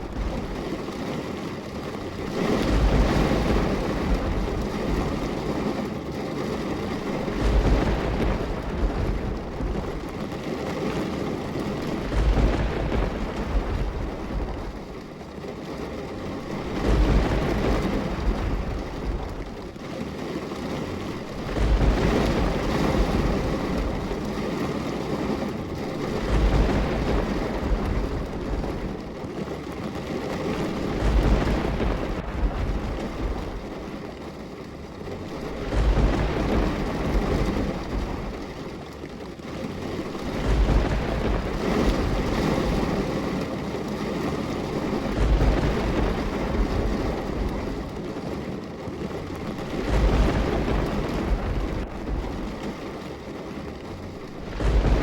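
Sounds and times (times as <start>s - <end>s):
low thunder rumbles: 0.0s - 55.0s
steady rain: 0.0s - 55.0s.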